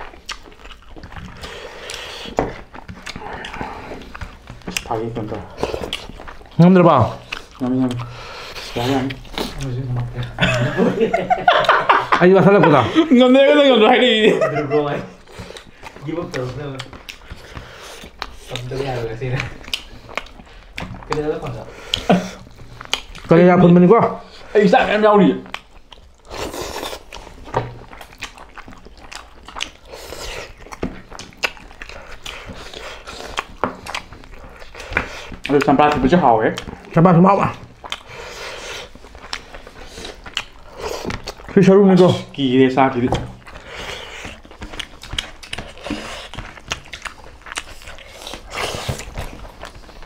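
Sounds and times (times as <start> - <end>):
fingers squishing food: 0.0 - 50.0
people chewing with wet smacks: 0.0 - 50.0.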